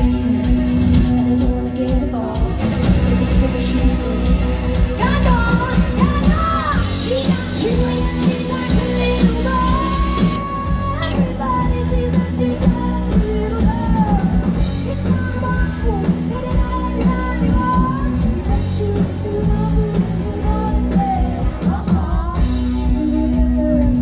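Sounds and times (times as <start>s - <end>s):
live rock band: 0.0s - 24.0s
woman singing: 0.0s - 24.0s.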